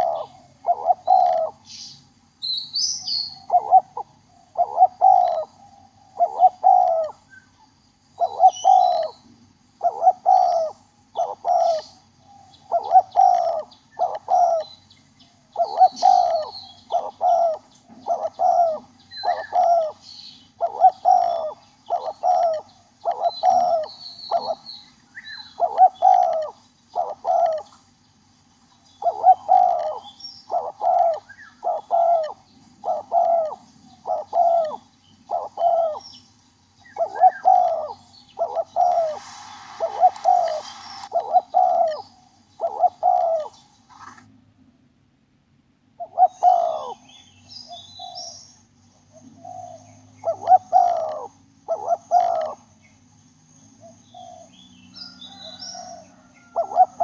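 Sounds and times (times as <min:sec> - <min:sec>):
dove cooing: 0:00.0 - 0:01.7, 0:03.0 - 0:07.3, 0:08.2 - 0:09.2, 0:09.8 - 0:14.8, 0:15.4 - 0:24.7, 0:25.3 - 0:27.8, 0:29.0 - 0:36.0, 0:36.8 - 0:44.2, 0:46.0 - 0:47.1, 0:49.1 - 0:52.7, 0:53.8 - 0:57.0.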